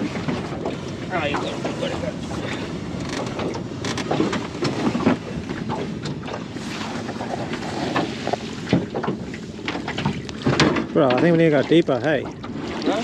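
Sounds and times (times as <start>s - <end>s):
water around a small boat: 0.0s - 13.0s.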